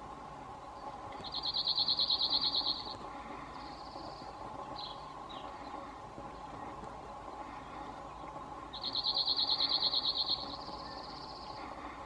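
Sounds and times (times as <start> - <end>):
bird singing dry trill: 0.6 - 12.0.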